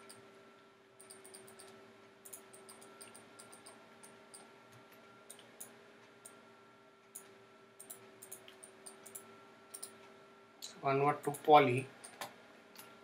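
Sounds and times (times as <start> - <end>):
low steady hum: 0.0 - 13.0
computer mouse clicks: 1.0 - 6.4, 7.1 - 10.0, 10.6 - 13.0.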